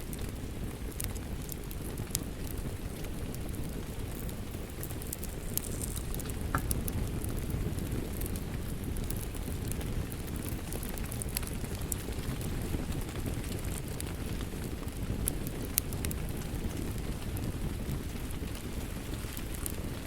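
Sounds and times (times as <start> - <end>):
rain: 0.0 - 20.0
wood fire crackling and popping: 0.0 - 20.0.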